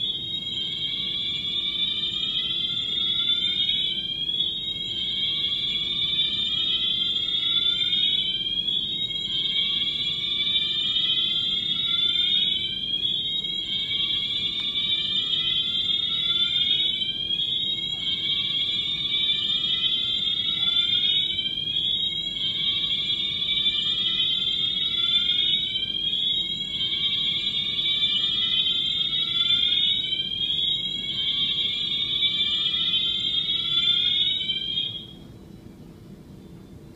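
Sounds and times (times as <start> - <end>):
fire alarm sirens sweeping: 0.0 - 36.9.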